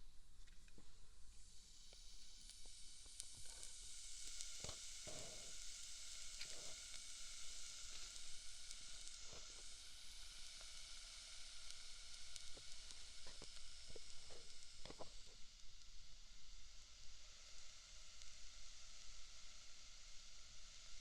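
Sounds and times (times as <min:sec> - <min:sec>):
ear candle sizzling hiss: 0:00.0 - 0:21.0
faint crackles: 0:00.4 - 0:19.1.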